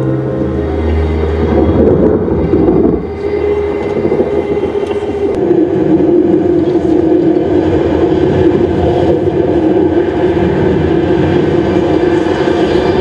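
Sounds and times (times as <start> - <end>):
tornado wind rushing: 0.0 - 13.0.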